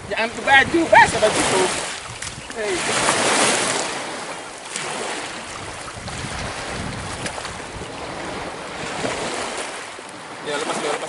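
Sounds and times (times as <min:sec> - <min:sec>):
wind on microphone: 0:00.0 - 0:09.9
feet wading through water: 0:00.0 - 0:11.0
small waves lapping: 0:00.0 - 0:11.0.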